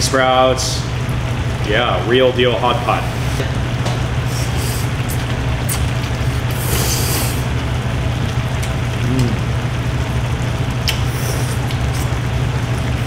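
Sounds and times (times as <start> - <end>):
hot pot bubbling: 0.0 - 13.0
steady low hum: 0.0 - 13.0.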